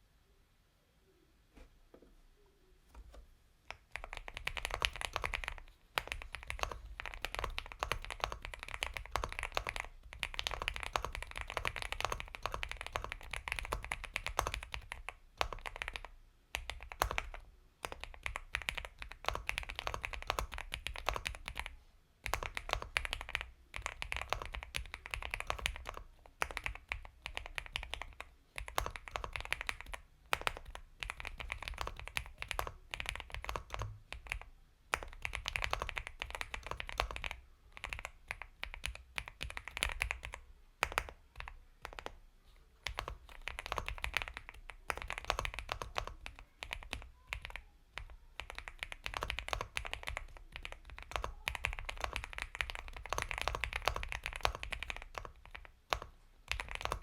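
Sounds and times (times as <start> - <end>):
fast typing on mechanical keyboard: 3.7 - 42.2, 42.8 - 57.0.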